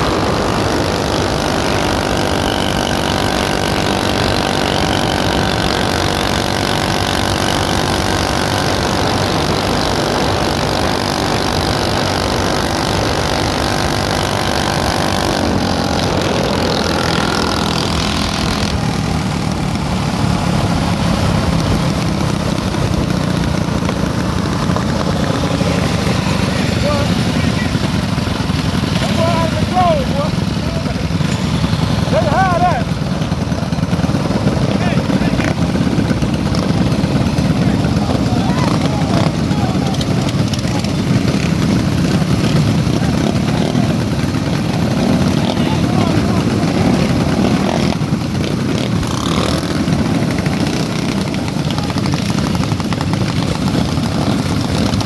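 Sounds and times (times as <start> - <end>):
motorbike engines cruising: 0.0 - 55.0
road and wind noise: 0.0 - 55.0.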